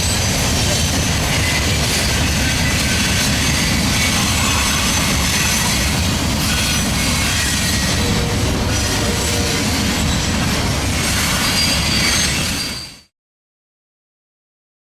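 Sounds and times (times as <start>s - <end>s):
high wheel squeal: 0.0s - 10.4s, 11.0s - 13.1s
train wheels rumbling on rail: 0.0s - 13.1s.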